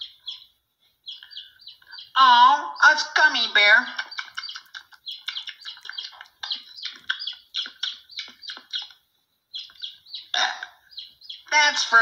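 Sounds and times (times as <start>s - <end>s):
bird-like chirps and tweets: 0.0s - 12.0s.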